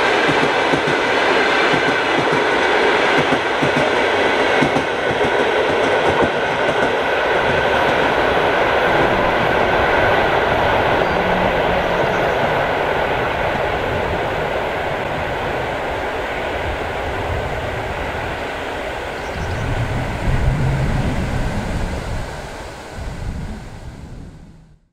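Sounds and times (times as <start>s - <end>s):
train wheels rumbling on rails: 0.0s - 24.6s.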